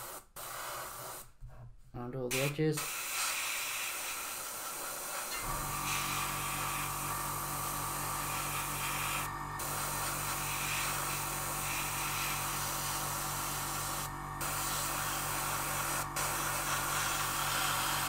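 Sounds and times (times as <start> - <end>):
airbrush spraying hiss: 0.0 - 1.3, 2.3 - 18.0
compressor pulsing hum: 2.3 - 18.0.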